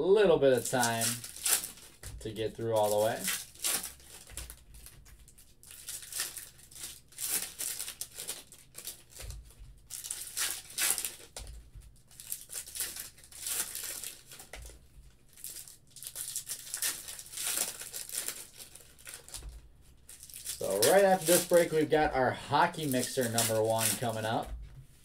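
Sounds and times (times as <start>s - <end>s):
foil wrappers tearing and crinkling: 0.5s - 24.4s.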